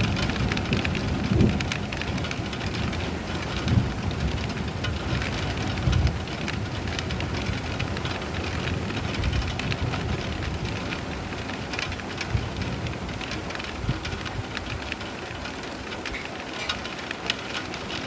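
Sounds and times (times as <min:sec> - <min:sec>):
low rumbles of thunder: 0:00.0 - 0:14.9
rain pattering: 0:00.0 - 0:18.0.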